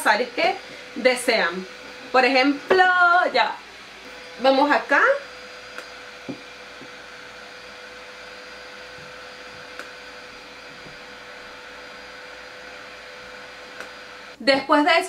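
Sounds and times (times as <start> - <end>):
device fan whirring: 0.0 - 14.5.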